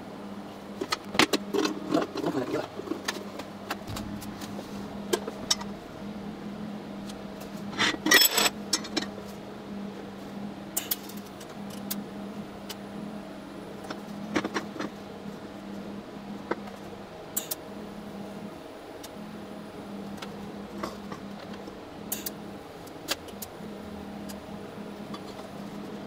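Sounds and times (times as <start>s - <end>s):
steady low hum: 2.8s - 26.0s.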